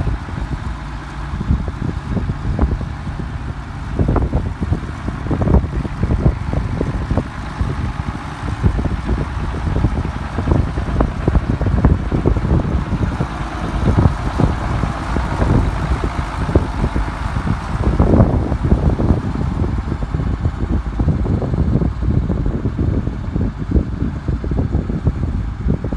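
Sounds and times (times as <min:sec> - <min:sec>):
tractor engine running: 0:00.0 - 0:25.9
wind buffeting microphone: 0:00.0 - 0:25.9.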